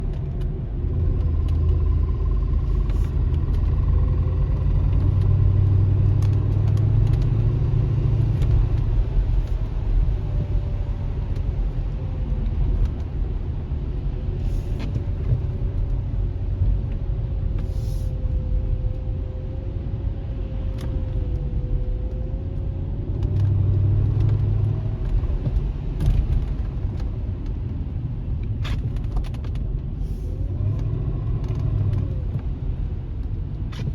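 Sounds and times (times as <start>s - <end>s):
car engine rumbling under load: 0.0s - 33.9s.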